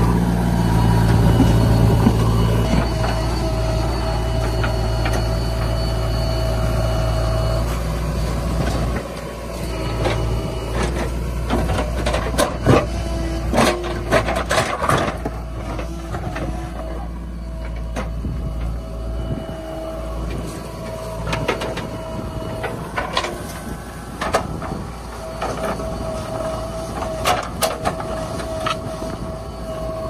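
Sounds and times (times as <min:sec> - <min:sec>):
heavy diesel machinery running: 0:00.0 - 0:30.0.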